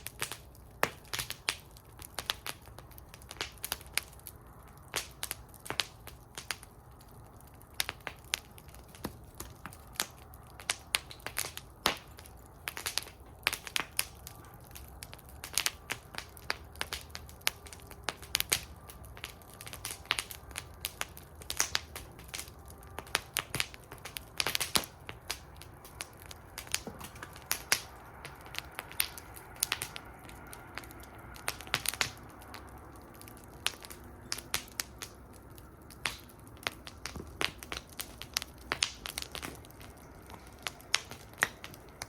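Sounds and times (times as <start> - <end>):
low rumble of flame: 0.0 - 42.0
wood fire crackling and popping: 0.0 - 42.0.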